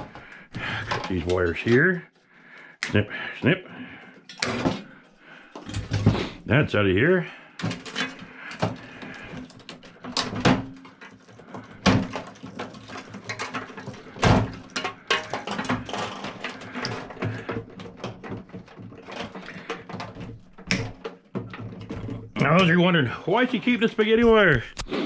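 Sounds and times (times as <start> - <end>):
metal parts clattering: 0.0 - 1.9, 4.2 - 6.2, 7.6 - 24.6.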